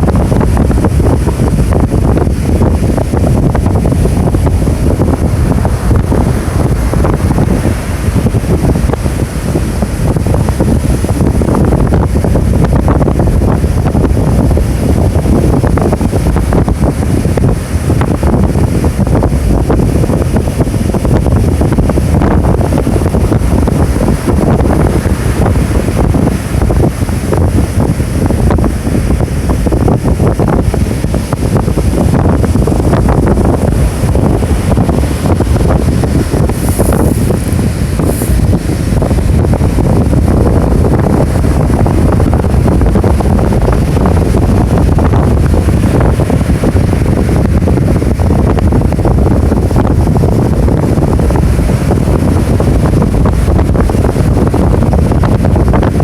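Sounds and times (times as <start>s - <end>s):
surf on the shore: 0.0s - 56.0s
wind buffeting microphone: 0.0s - 56.0s.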